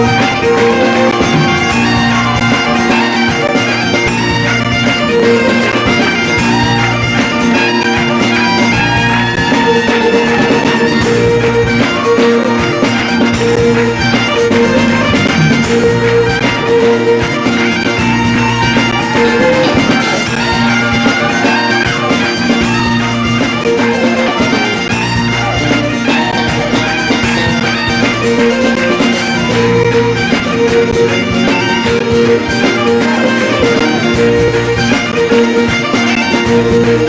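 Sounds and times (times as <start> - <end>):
bagpipe melody with drones: 0.0 - 37.0
fiddle: 0.0 - 37.0.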